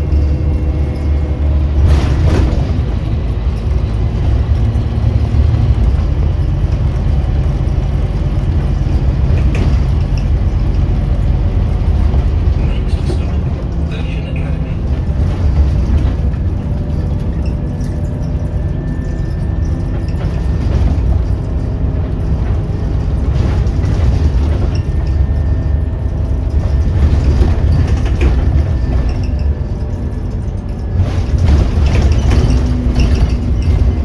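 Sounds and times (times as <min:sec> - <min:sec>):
bus engine and road noise: 0:00.0 - 0:34.0.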